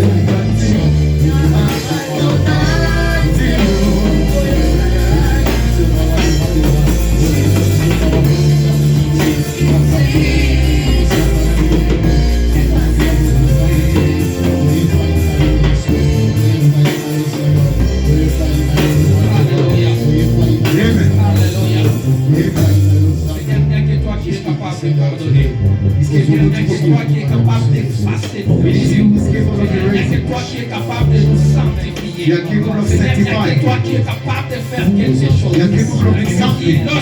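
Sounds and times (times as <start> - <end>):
bass line: 0.0 - 37.0
drums: 0.0 - 37.0
gospel singing over a band: 0.0 - 37.0.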